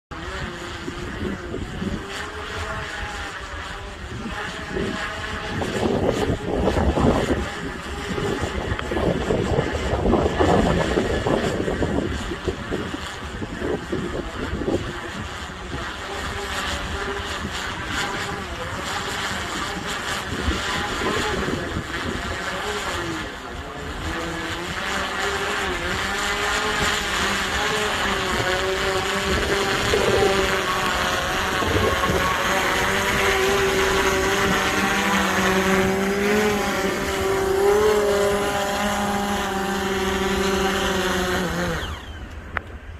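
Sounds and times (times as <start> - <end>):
drone propellers whining: 0.1 - 42.9
wind buffeting microphone: 0.1 - 42.9.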